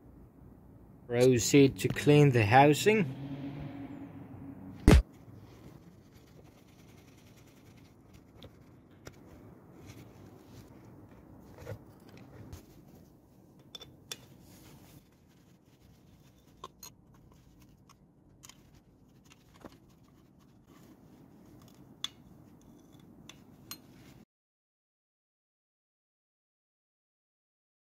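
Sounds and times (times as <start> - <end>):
faint background noise: 0.0 - 24.2.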